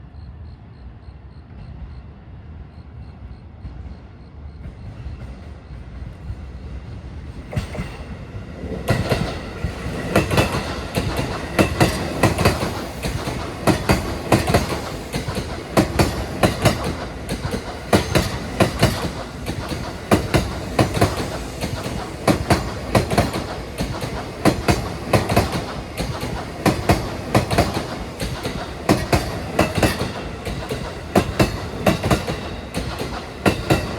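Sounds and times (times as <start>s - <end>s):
electric train approaching with rumble: 0.0s - 33.9s
train wheels clacking over rail joints: 4.5s - 33.9s.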